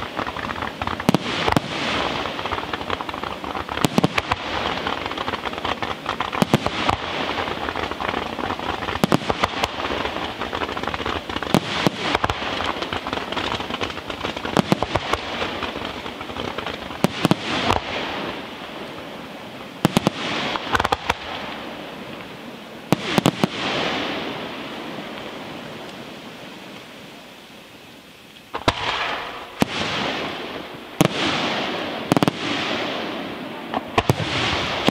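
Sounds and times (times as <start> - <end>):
sharp fireworks bangs: 0.0 - 26.8, 28.5 - 34.9
fireworks crackling: 0.0 - 34.9.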